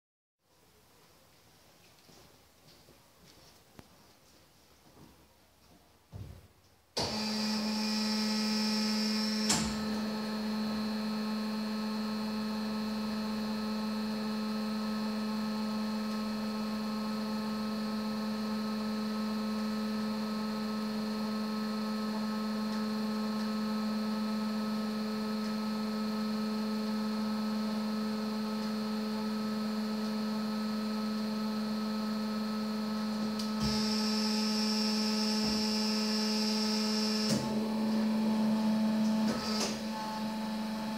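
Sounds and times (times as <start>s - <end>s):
electric hum with higher tones: 7.1s - 40.9s.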